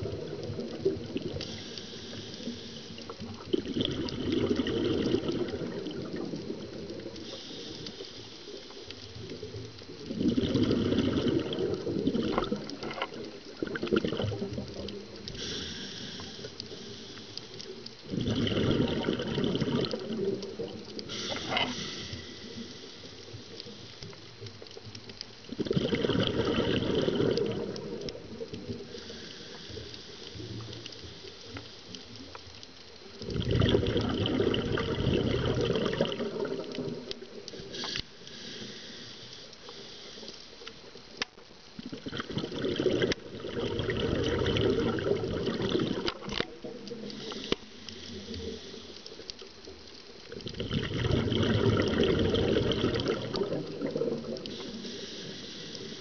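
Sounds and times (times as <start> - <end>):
underwater regulator bubbles: 0.0 - 56.0
faint clicks: 0.1 - 56.0.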